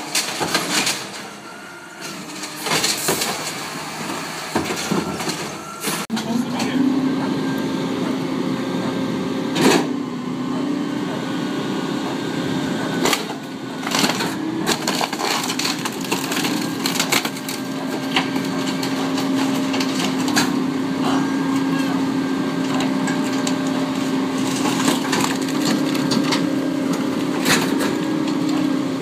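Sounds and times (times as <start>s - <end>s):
garbage truck engine humming: 0.0s - 29.0s.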